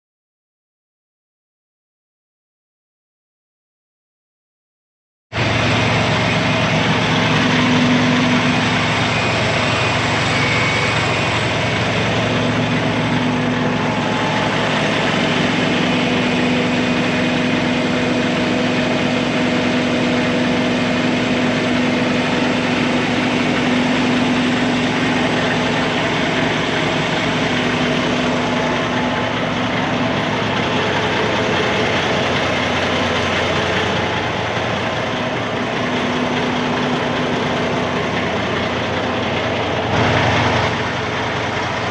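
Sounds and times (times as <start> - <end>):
diesel truck engine running: 5.4 - 41.9.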